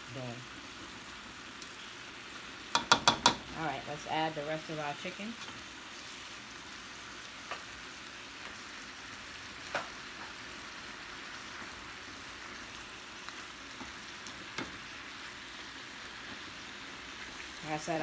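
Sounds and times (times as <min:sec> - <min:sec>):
chicken and vegetables sizzling in skillet: 0:00.0 - 0:18.0.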